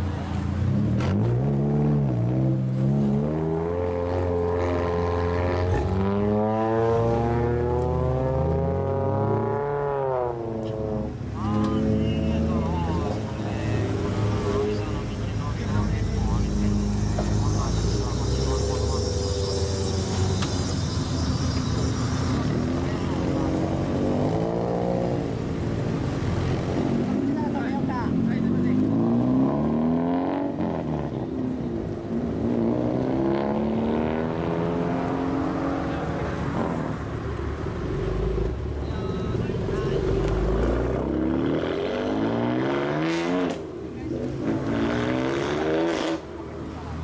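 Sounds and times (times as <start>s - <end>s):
car engine accelerating: 0.0s - 47.0s
cars driving slowly past: 0.0s - 47.0s.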